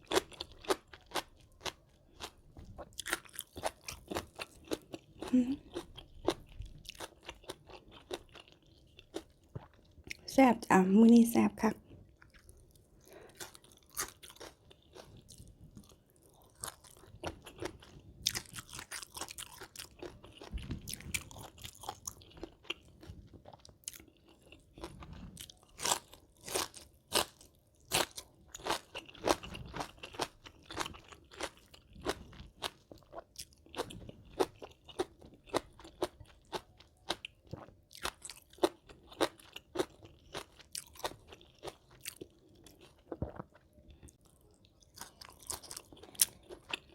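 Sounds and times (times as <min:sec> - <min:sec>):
chewing crunchy food: 0:00.0 - 0:10.3, 0:11.7 - 0:46.9.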